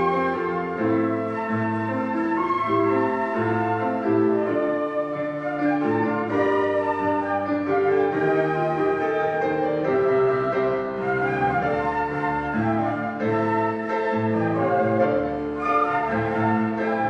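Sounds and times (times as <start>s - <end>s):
flute ensemble playing: 0.0s - 17.0s
keyboard accompaniment: 0.0s - 17.0s.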